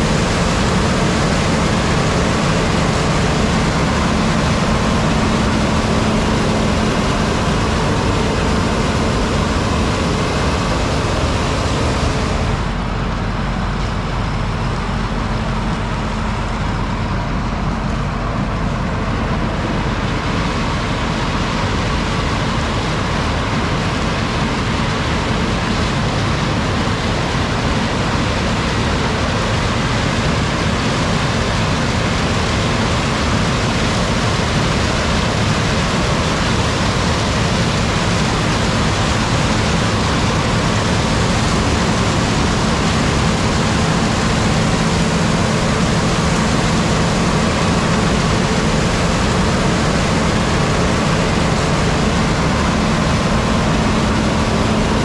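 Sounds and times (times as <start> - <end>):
heavy farm machinery running: 0.0 - 55.0.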